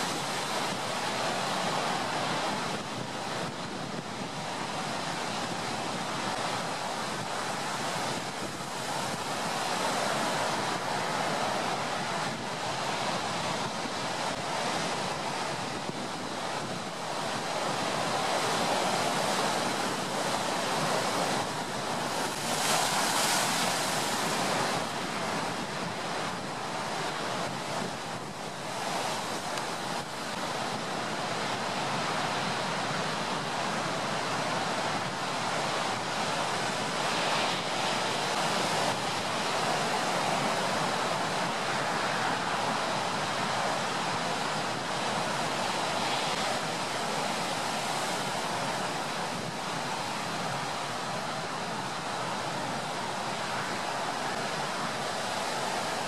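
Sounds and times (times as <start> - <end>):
ocean surf washing in and out: 0.0 - 56.0
steady brown noise hiss: 0.0 - 56.0.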